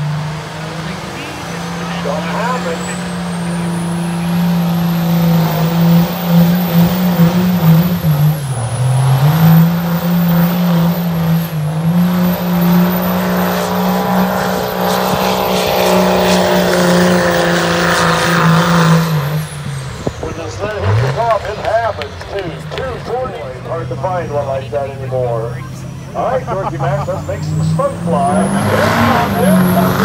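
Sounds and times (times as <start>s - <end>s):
pickup truck engine at full throttle: 0.0s - 30.0s.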